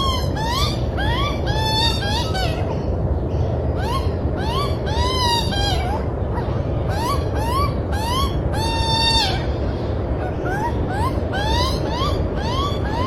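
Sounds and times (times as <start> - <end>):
bird calling: 0.0 - 2.9, 3.7 - 9.6, 10.2 - 13.0
steady low rumble: 0.0 - 13.0.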